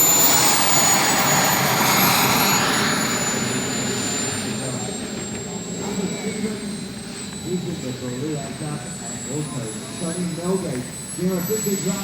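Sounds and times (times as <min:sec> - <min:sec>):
jet turbine whine and rush: 0:00.0 - 0:12.0.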